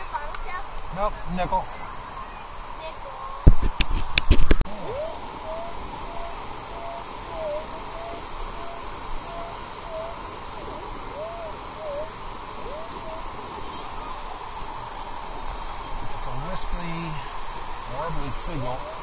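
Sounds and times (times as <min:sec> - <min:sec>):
surf noise: 0:00.0 - 0:19.0.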